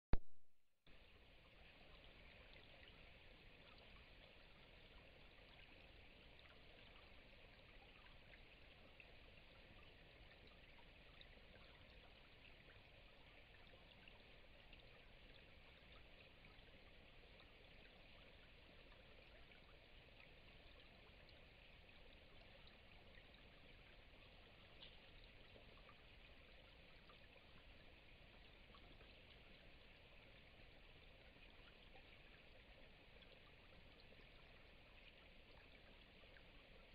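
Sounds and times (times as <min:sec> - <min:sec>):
faint steady hiss: 0:00.9 - 0:36.9
faint ticks: 0:01.0 - 0:36.9.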